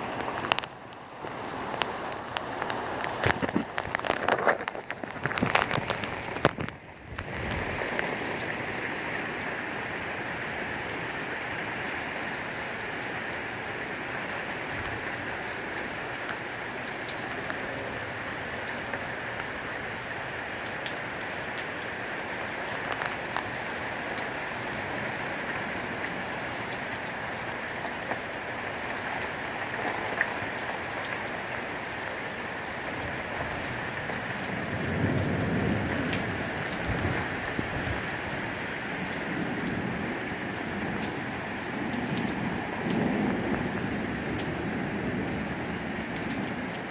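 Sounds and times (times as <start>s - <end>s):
rain hissing: 0.0s - 46.9s
raindrop ticks: 0.1s - 46.9s.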